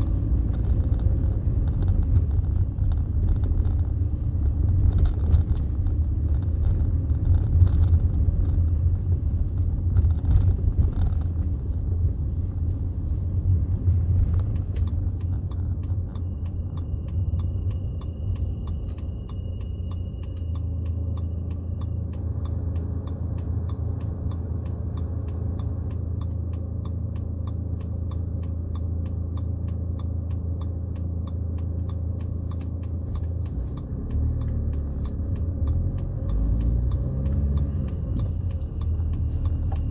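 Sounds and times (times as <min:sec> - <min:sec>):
car engine drone inside car: 0:00.0 - 0:39.9
light regular ticking: 0:00.0 - 0:39.9
road rumble: 0:00.0 - 0:39.9.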